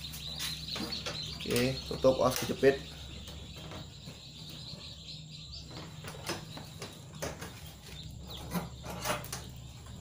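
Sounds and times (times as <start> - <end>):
faint chicks chirping: 0.0 - 10.0
steady low hum: 0.0 - 10.0.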